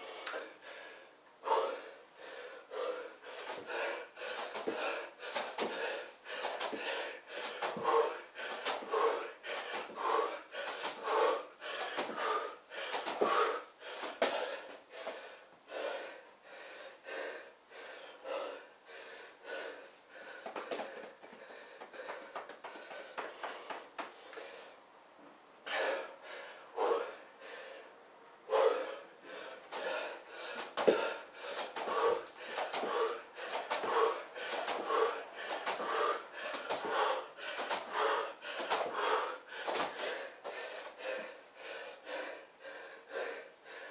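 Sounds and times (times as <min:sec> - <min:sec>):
man breathing hard: 0:00.0 - 0:43.9.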